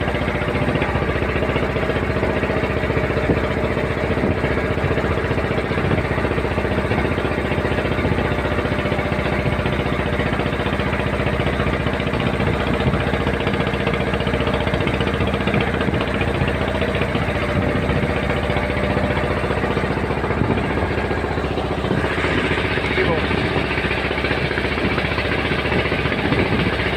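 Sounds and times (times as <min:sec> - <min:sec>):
boat engine running: 0:00.0 - 0:26.9.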